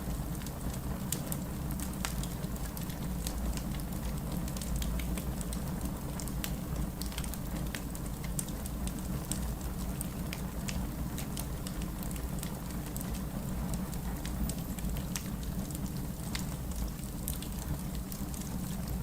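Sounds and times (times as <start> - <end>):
fire crackling and popping: 0.0 - 19.0
rain rumbling: 0.0 - 19.0.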